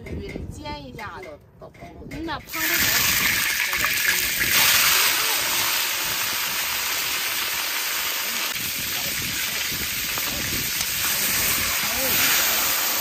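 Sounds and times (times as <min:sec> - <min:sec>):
fish frying in hot oil: 0:02.5 - 0:13.0.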